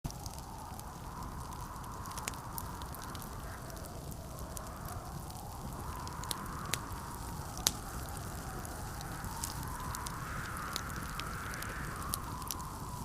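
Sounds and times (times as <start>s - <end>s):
howling blizzard wind: 0.0s - 13.0s
wood fire crackling: 0.0s - 13.0s
sharp pops from fire: 0.1s - 13.0s.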